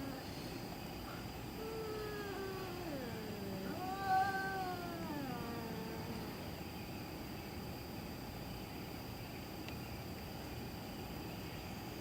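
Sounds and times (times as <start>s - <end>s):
constant high-pitched tone: 0.0s - 12.0s
low background hiss: 0.0s - 12.0s.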